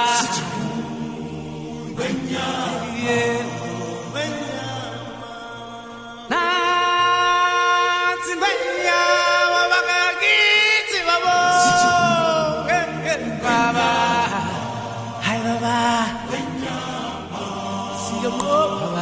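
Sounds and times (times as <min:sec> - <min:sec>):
person singing long gliding notes: 0:00.0 - 0:19.0.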